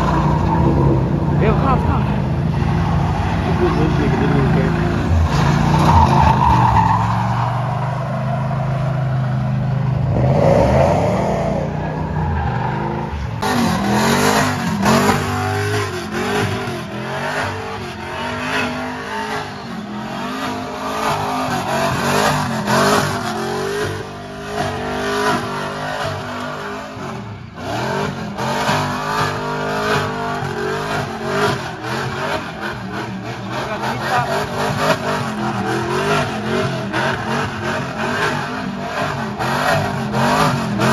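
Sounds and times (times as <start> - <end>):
tires spinning on asphalt: 0.0 - 40.9
truck engine revving: 0.0 - 40.9.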